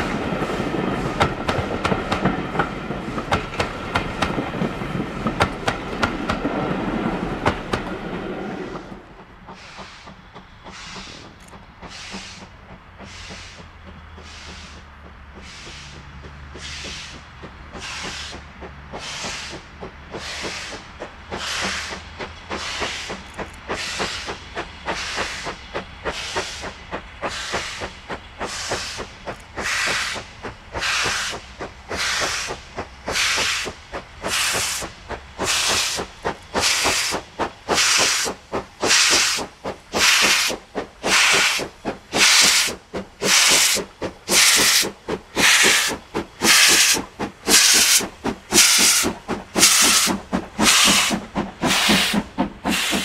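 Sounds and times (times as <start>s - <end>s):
steam locomotive chuffing: 0.0s - 53.0s
steam hissing: 7.1s - 53.0s.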